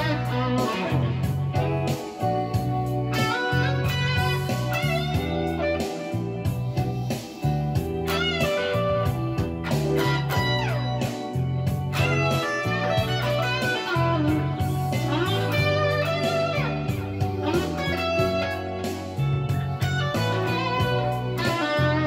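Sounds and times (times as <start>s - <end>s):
electric guitar solo with bends: 0.0s - 7.0s, 7.7s - 22.0s
backing track bass notes: 0.0s - 22.0s.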